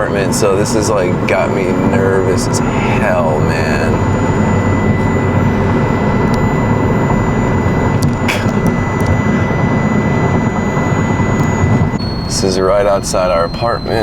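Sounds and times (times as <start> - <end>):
car interior rumble: 0.0 - 14.0
faint high tone: 0.0 - 14.0.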